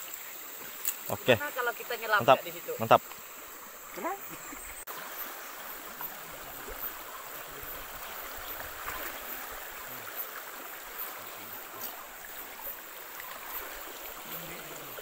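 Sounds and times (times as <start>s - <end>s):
stream babbling over rocks: 0.0s - 15.0s.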